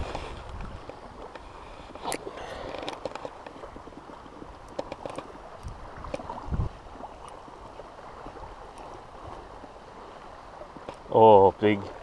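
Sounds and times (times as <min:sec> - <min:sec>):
light breeze: 0:00.0 - 0:12.0
water lapping and trickling: 0:00.0 - 0:12.0.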